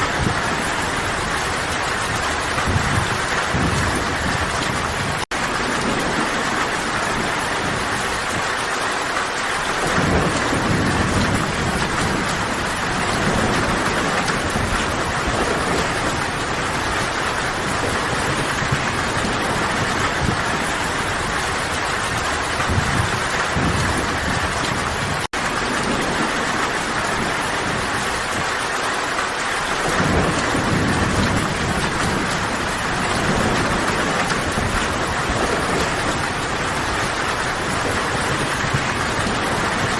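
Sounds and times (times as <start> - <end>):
distant thunder rolling: 0.0 - 39.9
heavy rain falling: 0.0 - 39.9.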